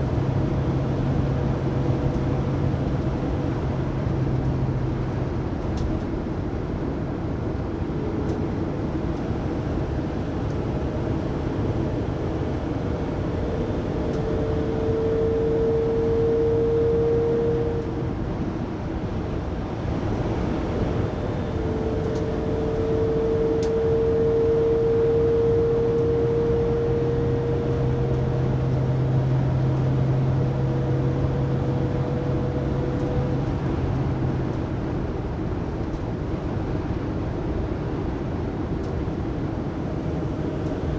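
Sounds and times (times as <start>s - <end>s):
road and engine noise: 0.0s - 40.9s
whine inside van cabin: 0.0s - 40.9s.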